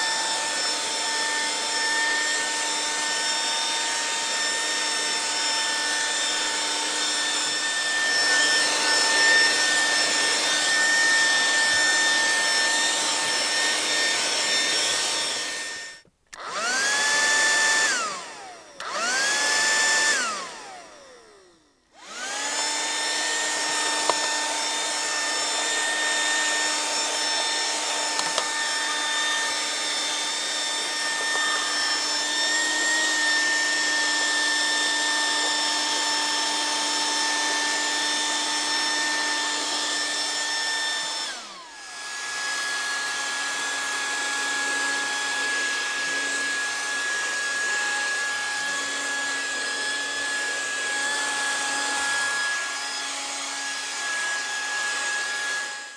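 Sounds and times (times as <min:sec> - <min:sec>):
vacuum cleaner motor whine: 0:00.0 - 0:55.9.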